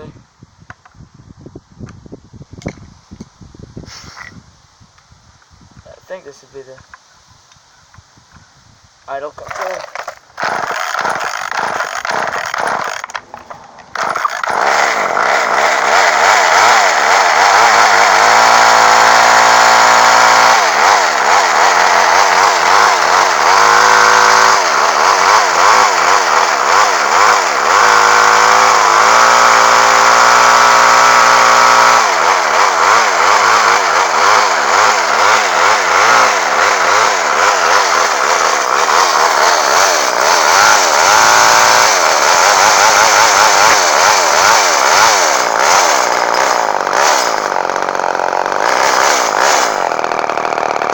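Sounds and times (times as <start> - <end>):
chainsaw engine cranking and running: 9.3 - 50.9.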